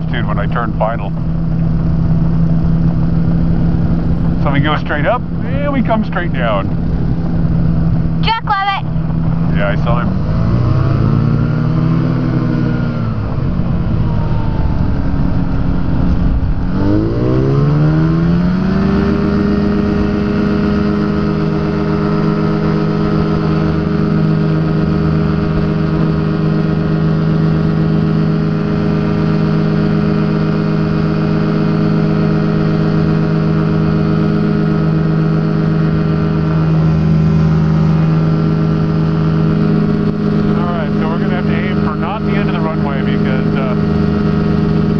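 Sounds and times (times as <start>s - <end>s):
ultralight aircraft engine drone: 0.0s - 44.9s.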